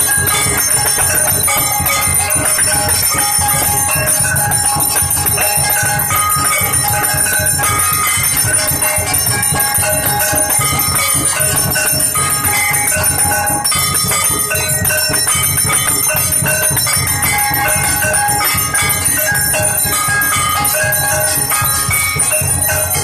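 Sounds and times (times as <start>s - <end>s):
temple bells ringing rapidly: 0.0s - 23.0s.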